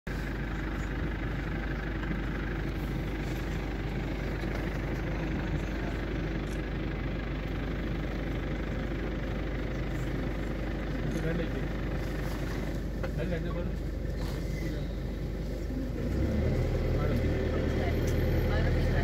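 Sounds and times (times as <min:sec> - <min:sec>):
vehicle engine idling: 0:00.1 - 0:19.0.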